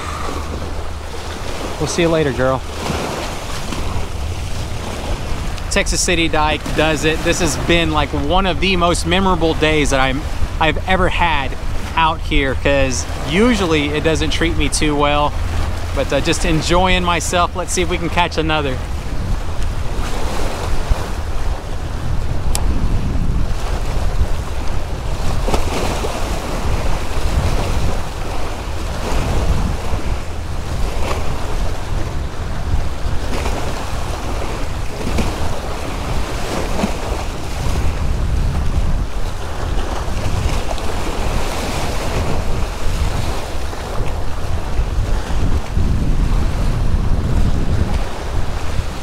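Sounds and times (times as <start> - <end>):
waves splashing against rocks: 0.0 - 49.0
wind buffeting microphone: 0.0 - 49.0.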